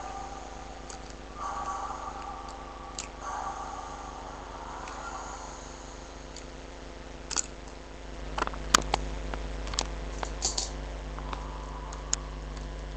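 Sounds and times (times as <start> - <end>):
low electrical hum: 0.0 - 12.9.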